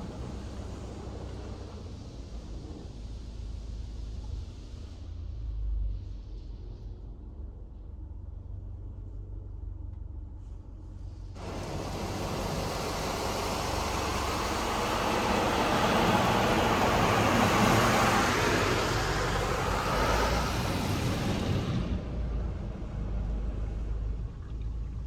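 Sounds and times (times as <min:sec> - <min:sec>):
car wash water hiss: 0:00.0 - 0:07.1, 0:10.4 - 0:24.1
constant low hum: 0:00.0 - 0:25.0.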